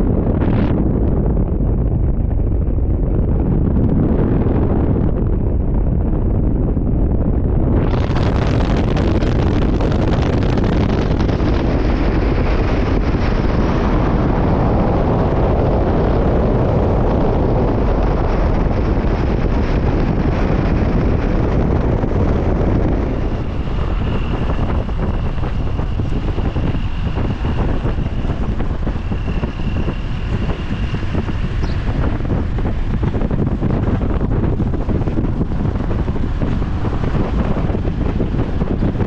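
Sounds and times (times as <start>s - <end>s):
moving vehicle rumble: 0.0s - 39.0s
wind buffeting microphone: 0.0s - 39.0s
faint thin whine: 7.6s - 39.0s.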